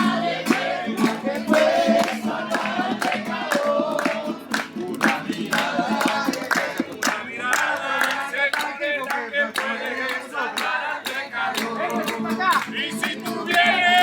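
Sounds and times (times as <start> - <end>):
group of people singing: 0.0 - 14.0
people clapping along: 0.0 - 14.0.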